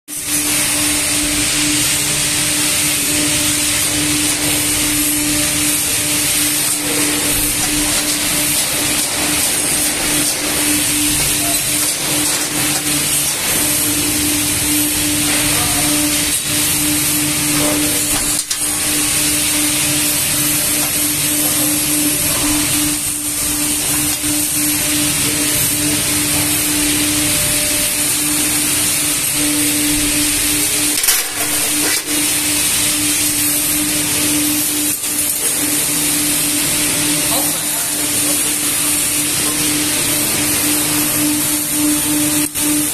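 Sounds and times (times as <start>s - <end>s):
high whine over hiss: 0.1s - 42.9s
hydraulic press motor hum: 0.2s - 37.2s.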